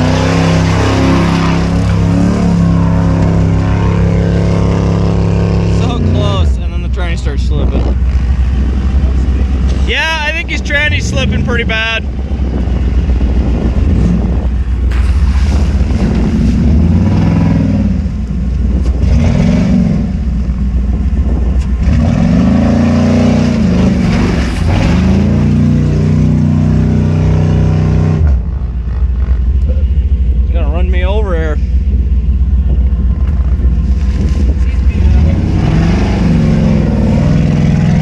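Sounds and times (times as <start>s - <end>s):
truck engine revving hard: 0.0s - 20.4s, 21.3s - 29.3s, 34.8s - 38.0s.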